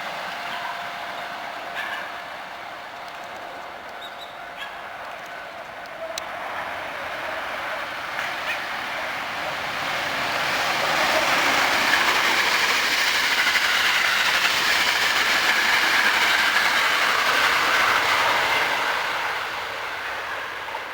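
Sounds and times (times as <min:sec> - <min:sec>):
electric train passing: 0:00.0 - 0:20.9
wheels on rail: 0:00.0 - 0:20.9.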